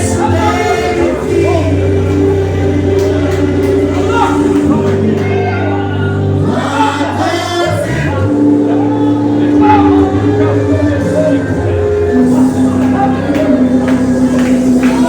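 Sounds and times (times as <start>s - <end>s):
gospel vocal group singing: 0.0s - 15.0s
steady low bass: 0.0s - 15.0s
sustained accompaniment chords: 0.0s - 15.0s.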